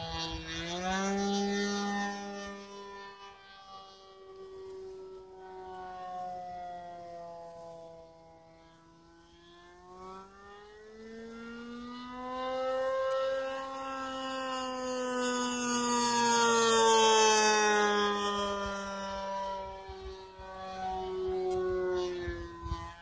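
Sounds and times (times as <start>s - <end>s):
model plane engine whine: 0.0s - 23.0s.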